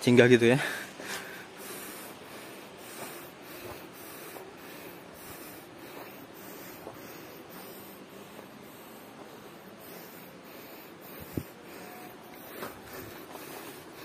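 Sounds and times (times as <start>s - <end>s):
outdoor hiss: 0.0s - 14.0s
footsteps on dry dirt: 0.7s - 10.2s, 11.1s - 14.0s.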